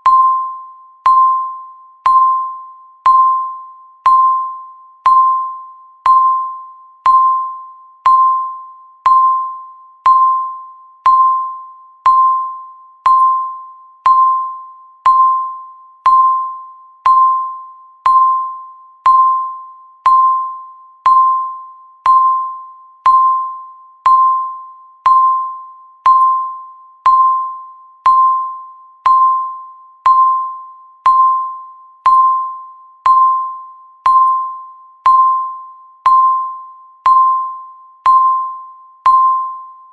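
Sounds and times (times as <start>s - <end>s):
bell-like timer beeps: 0.0s - 39.9s.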